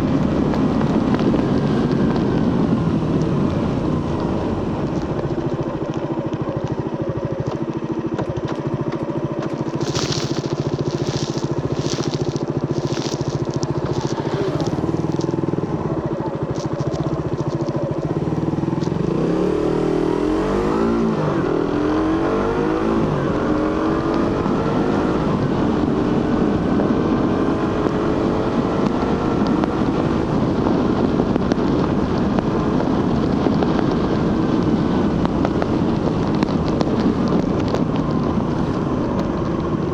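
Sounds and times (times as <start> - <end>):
exhaust crackles: 0.0 - 39.9
motorcycle engine: 0.0 - 39.9.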